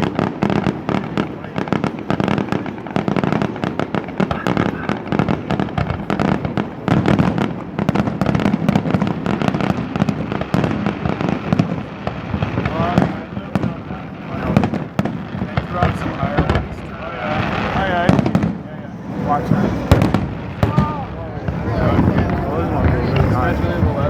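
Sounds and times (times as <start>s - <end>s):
fireworks bangs crackling: 0.0s - 24.0s.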